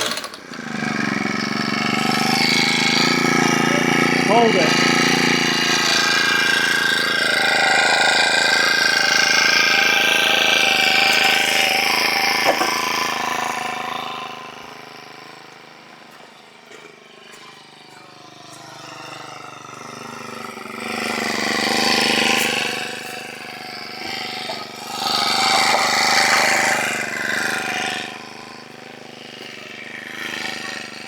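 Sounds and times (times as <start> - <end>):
engine running loudly: 0.0 - 31.0.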